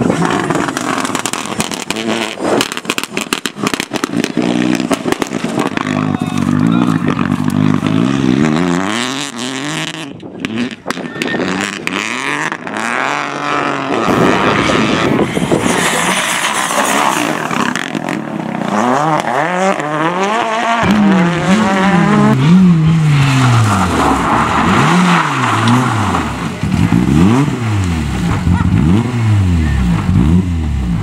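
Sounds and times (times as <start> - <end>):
rally car engines revving hard: 0.0 - 31.0.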